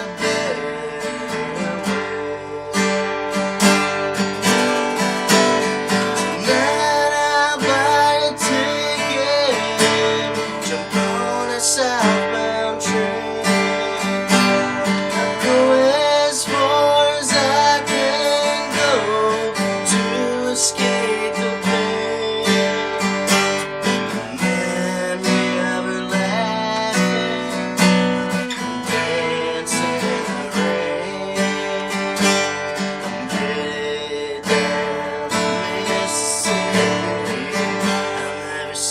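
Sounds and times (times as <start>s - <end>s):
acoustic guitar country tune: 0.0s - 38.9s.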